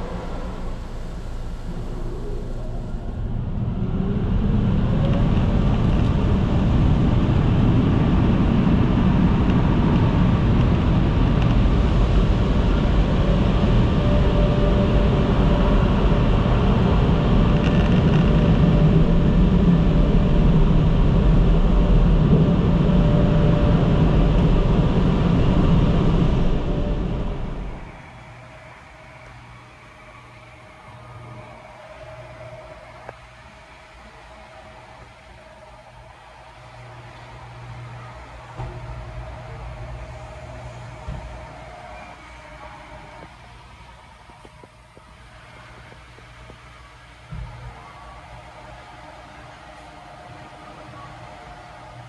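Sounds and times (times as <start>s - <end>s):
car wash dryers blowing air: 0.0s - 52.0s
faint steady whine: 0.0s - 52.0s.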